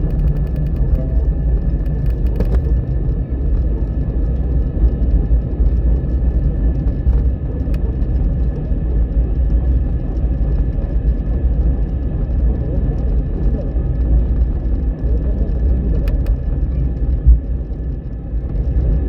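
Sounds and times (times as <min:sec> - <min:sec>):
jet airliner rumble: 0:00.0 - 0:19.0.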